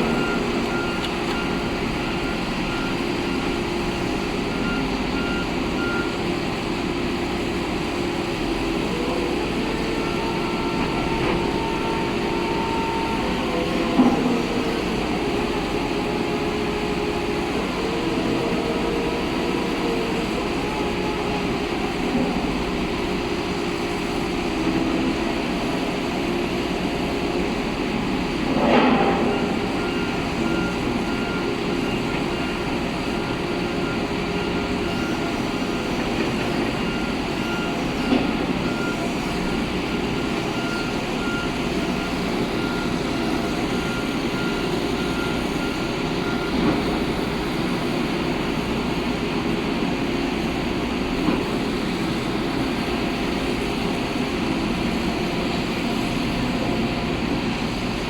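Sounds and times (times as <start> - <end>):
reversing alarm beeping: 0.0 - 7.2, 8.4 - 27.4, 28.8 - 57.5
heavy diesel machinery running: 0.0 - 58.0.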